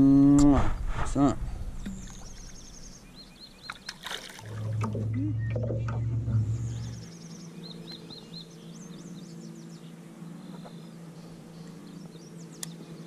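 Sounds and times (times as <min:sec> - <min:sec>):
loud low drone: 0:00.0 - 0:03.6, 0:04.4 - 0:13.0
faint low hum: 0:00.0 - 0:13.0
small birds chirping: 0:01.8 - 0:13.0.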